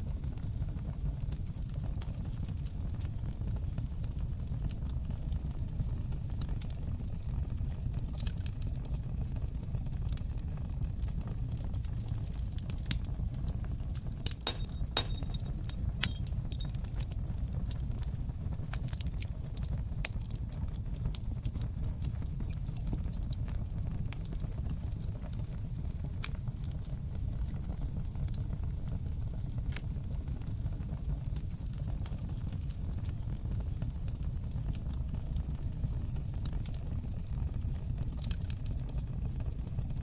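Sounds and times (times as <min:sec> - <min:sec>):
fireplace fire crackling: 0:00.0 - 0:40.0.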